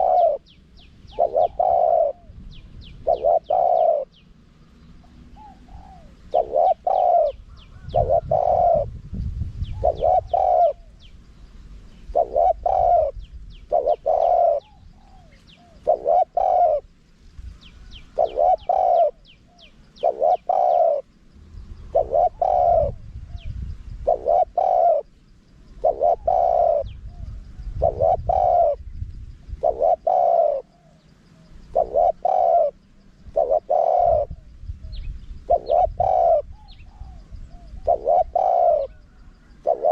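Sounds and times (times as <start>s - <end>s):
dove cooing: 0.0s - 4.2s, 4.8s - 9.0s, 9.6s - 11.1s, 12.1s - 17.0s, 17.6s - 21.2s, 21.8s - 28.9s, 29.5s - 39.9s
small birds chirping: 0.0s - 39.9s.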